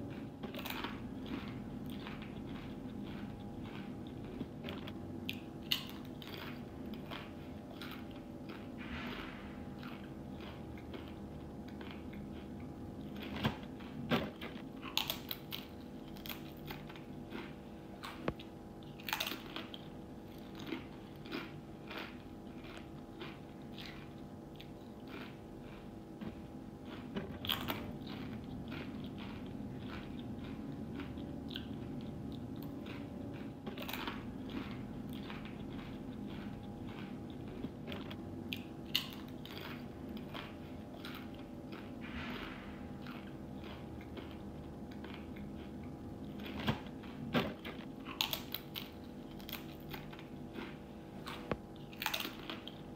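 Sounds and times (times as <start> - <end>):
person crunching chips: 0.0 - 52.9.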